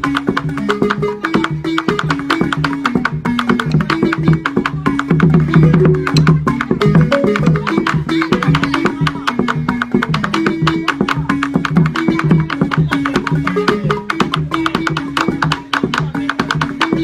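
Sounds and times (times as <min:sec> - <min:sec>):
barrel drum beaten with sticks: 0:00.0 - 0:17.0
wooden xylophone played fast: 0:00.0 - 0:17.0.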